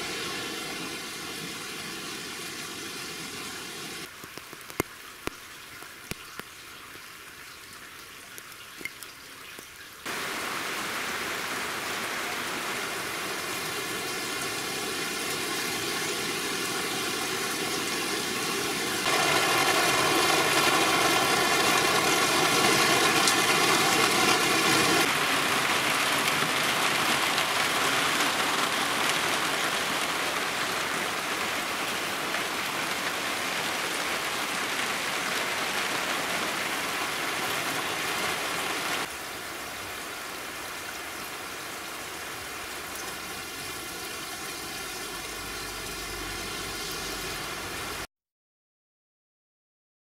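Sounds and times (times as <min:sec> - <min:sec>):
steady rain falling: 0:00.0 - 0:48.1.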